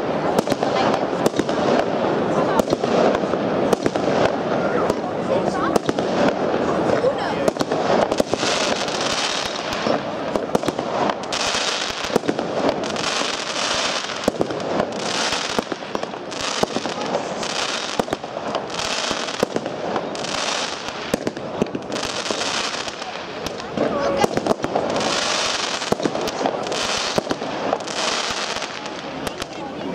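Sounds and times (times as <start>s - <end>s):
firework crackle overhead: 0.0s - 29.9s
firework shots and bangs: 0.0s - 29.9s.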